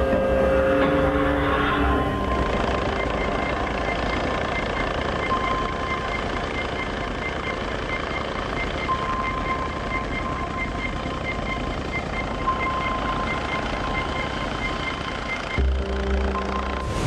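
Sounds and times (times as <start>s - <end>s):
faint high-pitched pulsing tone: 0.0s - 17.0s
helicopter rotor and engine: 0.0s - 17.0s.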